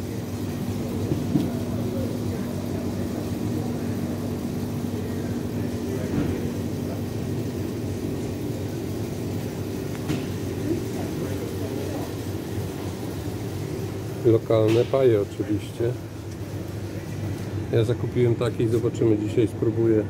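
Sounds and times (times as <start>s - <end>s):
cooling equipment humming: 0.0s - 20.0s.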